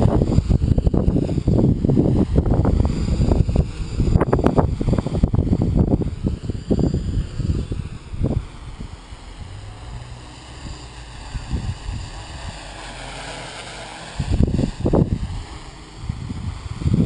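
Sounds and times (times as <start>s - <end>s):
quadcopter motors whining: 0.0s - 17.0s
wind buffeting microphone: 0.0s - 17.0s.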